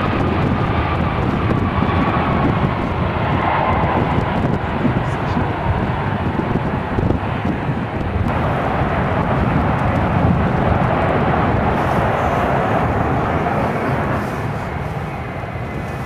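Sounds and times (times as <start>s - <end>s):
jet engines at takeoff power: 0.0s - 16.0s.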